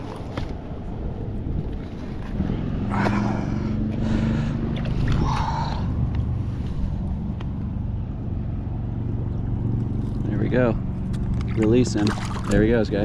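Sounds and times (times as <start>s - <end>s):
motor engine running: 2.2s - 13.0s.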